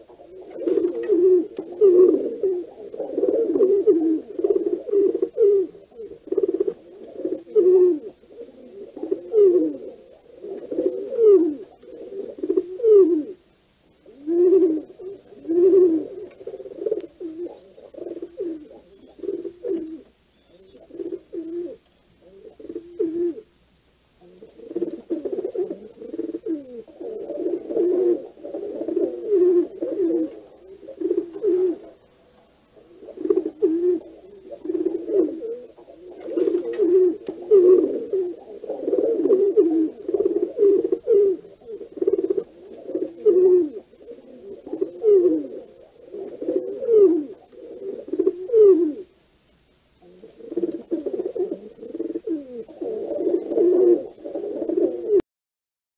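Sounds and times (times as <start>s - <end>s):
pigeons cooing: 0.0s - 49.3s, 50.0s - 55.2s.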